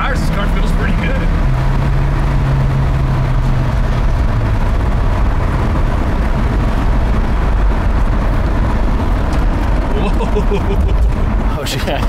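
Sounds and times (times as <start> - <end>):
car cabin engine tyre and wind rumble: 0.0 - 12.0.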